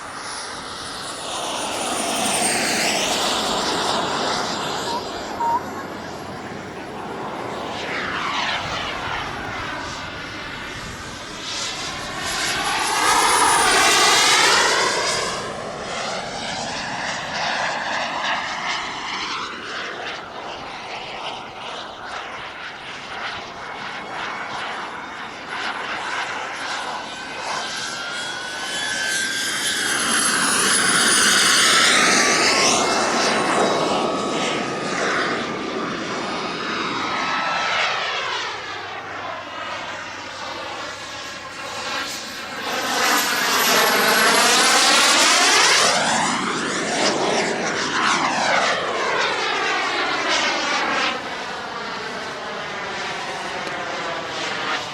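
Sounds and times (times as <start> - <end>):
jet fly-by sweeping down in pitch: 0.0 - 54.9
model jet turbine whining: 0.0 - 54.9.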